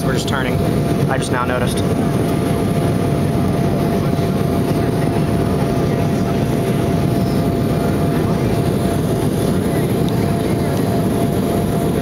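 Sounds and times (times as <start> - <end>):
jet engines rushing in cabin: 0.0 - 12.0.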